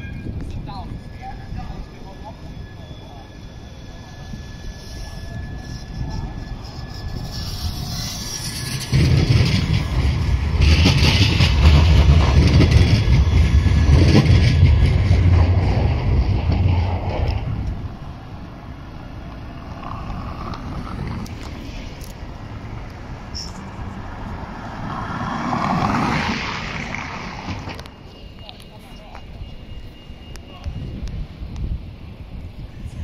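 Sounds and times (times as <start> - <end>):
tram passing on rails: 0.0 - 33.0.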